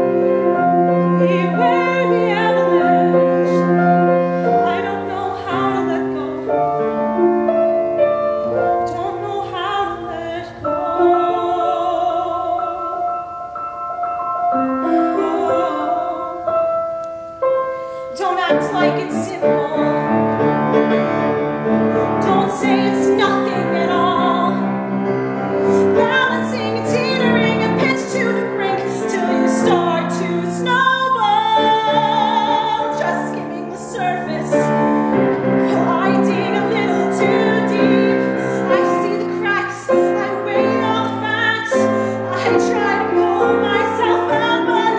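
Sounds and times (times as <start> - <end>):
grand piano: 0.0 - 44.9
woman singing operatic ballad: 0.0 - 44.9.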